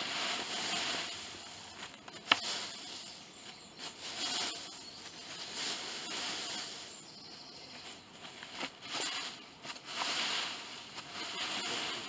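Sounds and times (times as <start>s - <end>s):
rustling in dry leaves: 0.0s - 12.0s.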